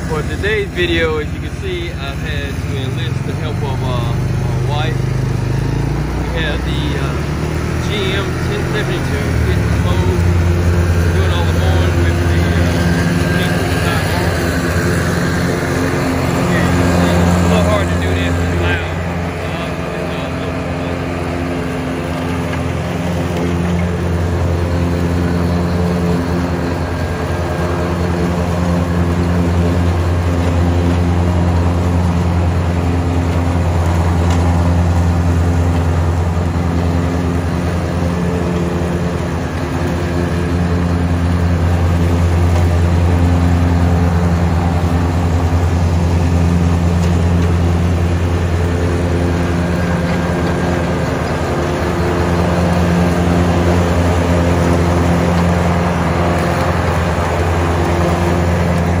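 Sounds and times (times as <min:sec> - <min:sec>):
mower cutting grass: 0:00.0 - 0:59.0
tractor diesel engine running: 0:00.0 - 0:59.0.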